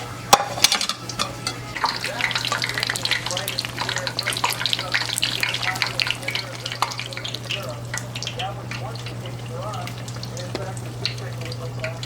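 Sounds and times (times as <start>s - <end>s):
food deep frying in oil: 0.0s - 12.0s.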